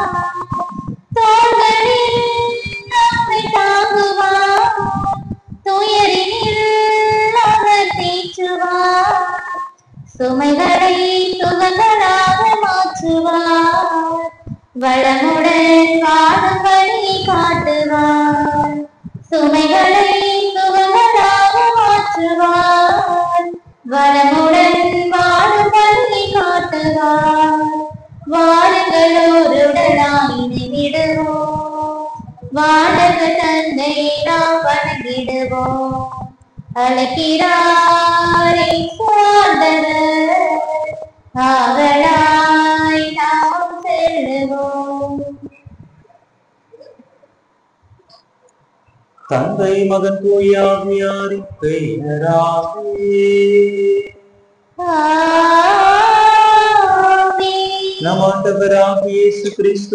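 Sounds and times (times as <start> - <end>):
woman singing a hymn: 0.0 - 45.6, 54.8 - 58.5.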